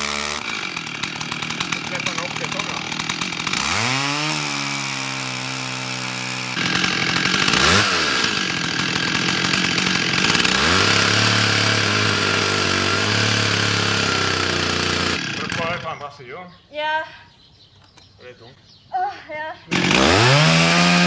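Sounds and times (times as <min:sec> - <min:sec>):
chainsaw cutting into tree trunk: 0:00.0 - 0:16.0, 0:19.7 - 0:21.0.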